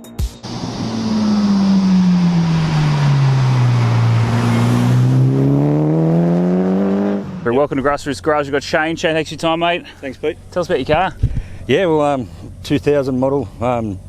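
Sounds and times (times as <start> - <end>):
car engine revving: 0.4 - 14.0
road noise: 0.4 - 14.0.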